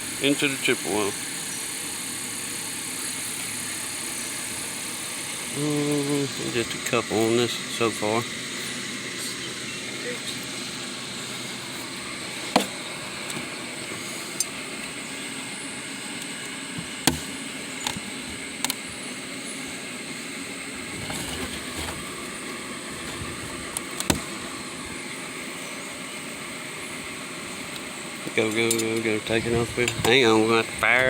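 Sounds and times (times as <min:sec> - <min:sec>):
honeybees humming: 0:00.0 - 0:31.0.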